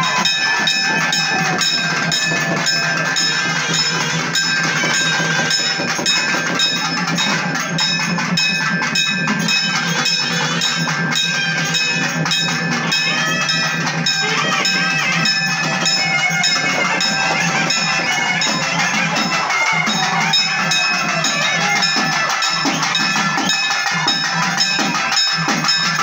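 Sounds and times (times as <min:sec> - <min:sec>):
fast dense drum strokes: 0:00.0 - 0:26.0
ringing metallic bell tones: 0:00.0 - 0:26.0.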